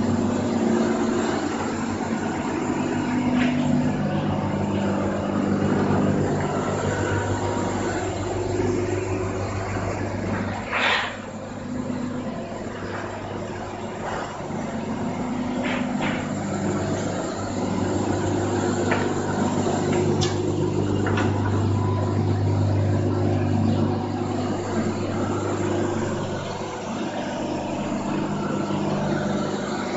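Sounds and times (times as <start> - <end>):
machine motor humming: 0.0 - 29.9.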